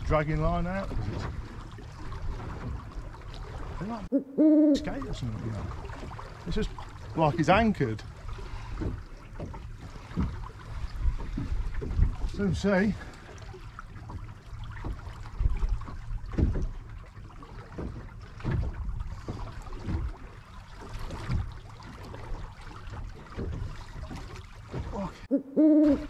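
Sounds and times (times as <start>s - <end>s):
water slapping against boat hull: 0.0s - 4.1s, 4.8s - 26.0s.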